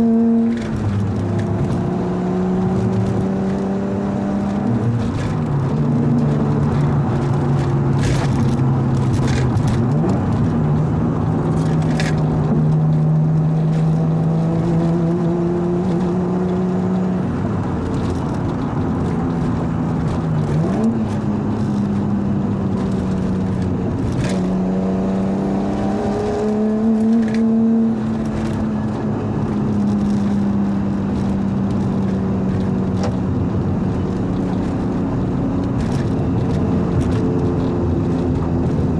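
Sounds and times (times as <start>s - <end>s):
car engine cruising: 0.0s - 38.9s.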